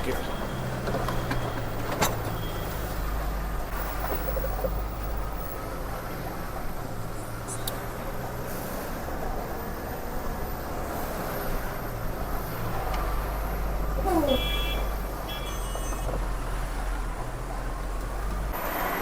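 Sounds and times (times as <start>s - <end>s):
truck engine running: 0.0s - 18.6s
road noise: 0.0s - 19.0s.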